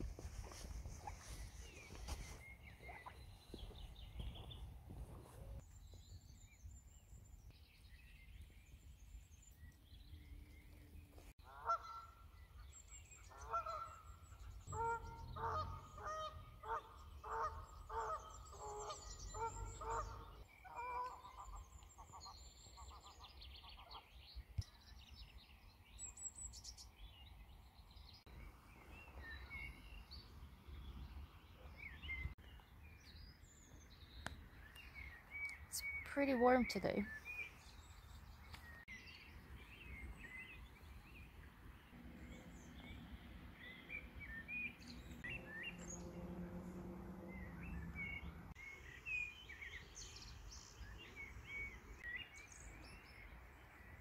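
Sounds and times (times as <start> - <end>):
small birds singing faintly: 0.0 - 54.0.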